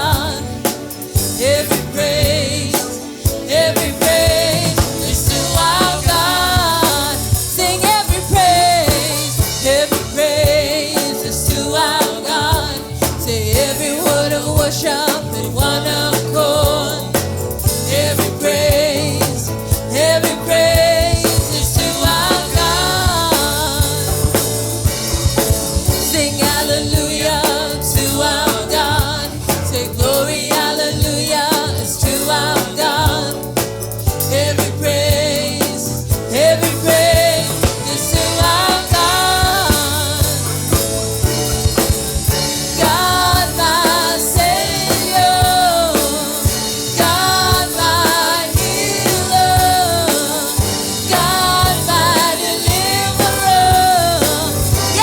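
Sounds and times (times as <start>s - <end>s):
drum kit: 0.0s - 55.0s
voices singing gospel song: 0.0s - 55.0s.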